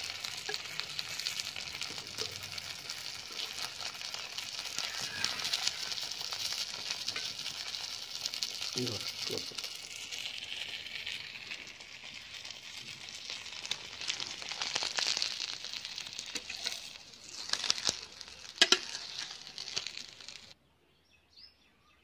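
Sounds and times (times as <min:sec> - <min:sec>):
leaf parcels crackling: 0:00.0 - 0:20.6
oil sizzling on griddle: 0:00.0 - 0:20.6.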